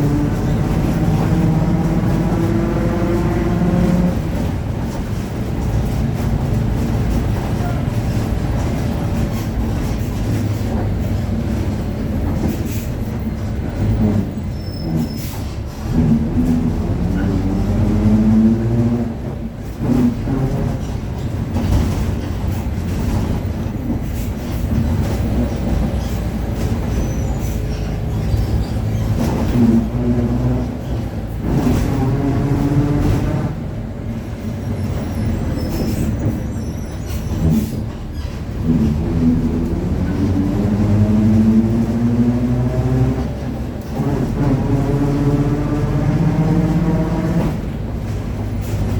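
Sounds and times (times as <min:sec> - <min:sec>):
bus diesel engine rumble: 0:00.0 - 0:48.9.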